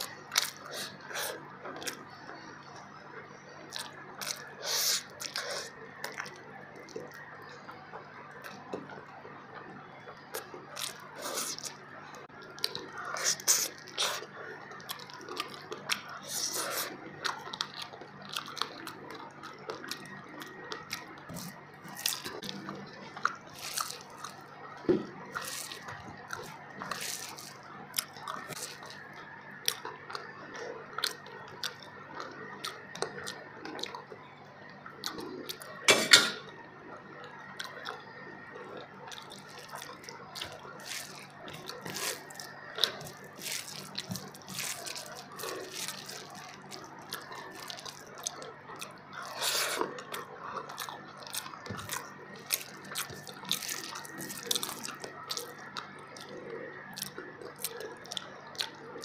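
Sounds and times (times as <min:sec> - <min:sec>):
person chewing wetly: 0:00.0 - 0:02.9, 0:03.6 - 0:07.7, 0:10.1 - 0:36.0, 0:37.2 - 0:59.0.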